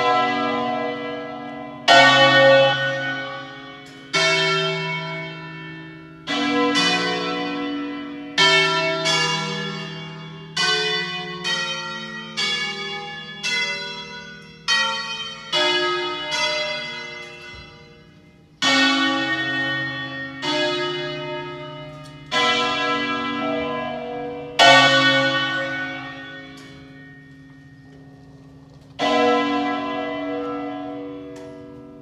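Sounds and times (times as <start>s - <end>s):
church bells ringing a tune: 0.0s - 32.0s.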